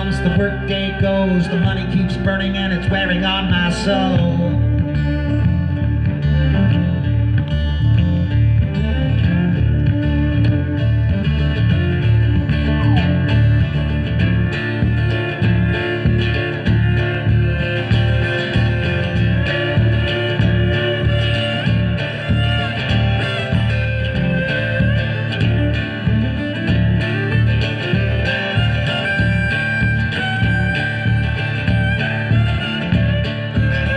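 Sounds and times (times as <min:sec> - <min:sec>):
band playing instrumental: 0:00.0 - 0:33.9.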